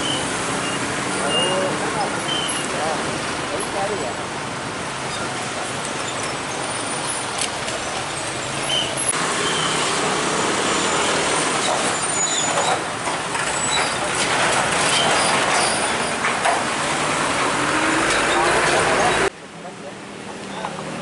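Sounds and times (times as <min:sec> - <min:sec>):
heavy trucks and traffic passing: 0:00.0 - 0:21.0.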